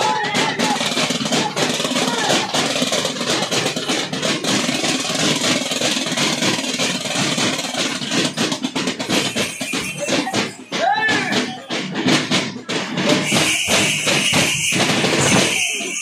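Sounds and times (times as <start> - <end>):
frame drums beating fast: 0.0 - 16.0
brass bells jingling: 0.3 - 16.0.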